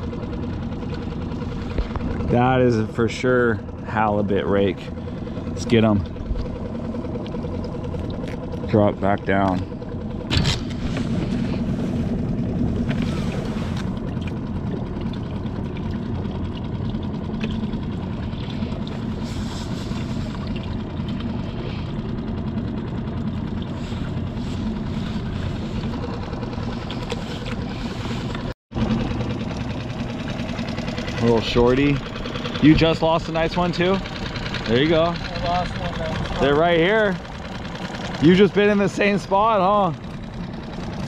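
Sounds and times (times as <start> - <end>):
outboard motor idling: 0.0 - 41.0.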